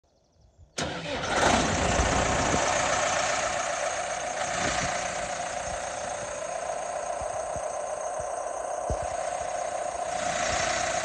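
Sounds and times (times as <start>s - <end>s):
diesel tractor engine running: 0.8s - 11.0s.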